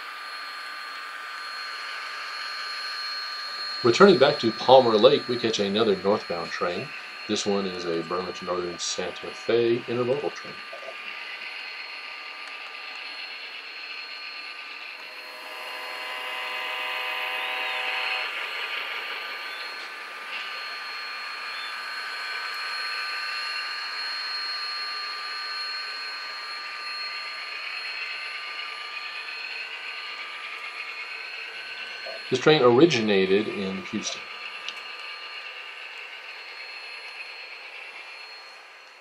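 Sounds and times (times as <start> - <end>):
model train motors whirring: 0.0 - 39.0
thin high whine: 0.0 - 39.0.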